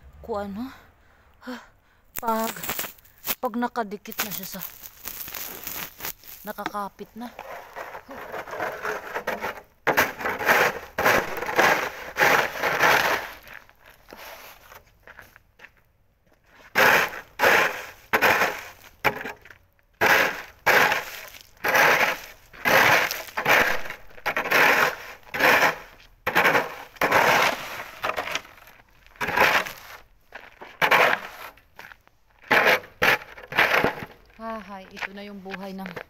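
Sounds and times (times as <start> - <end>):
shovel scraping packed snow: 4.1 - 14.9, 16.5 - 36.0.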